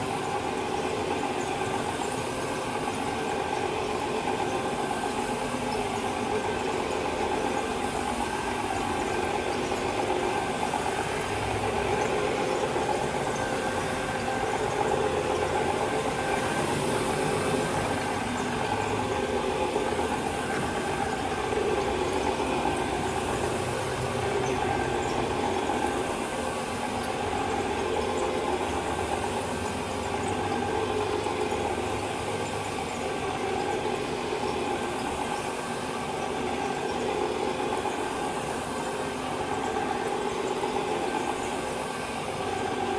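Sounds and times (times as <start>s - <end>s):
carpet-cleaning machine running: 0.0s - 42.9s.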